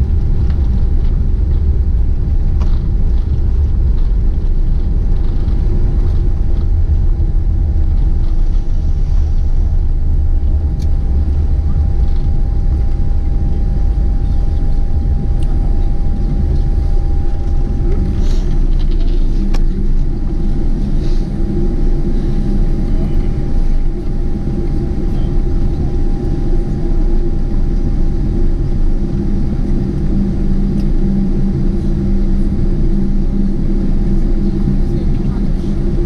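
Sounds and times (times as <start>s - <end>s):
airplane cabin engine rumble: 0.0s - 36.0s
thin steady whine: 0.0s - 36.0s.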